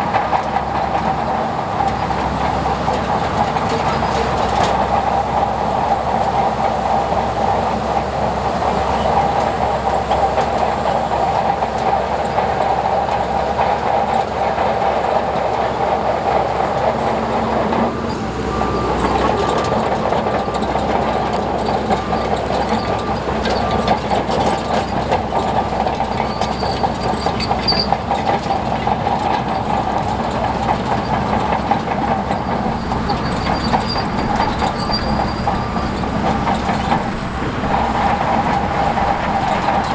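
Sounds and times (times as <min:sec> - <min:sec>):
bulldozer diesel engine running: 0:00.0 - 0:39.9
steel tracks clattering: 0:00.0 - 0:39.9.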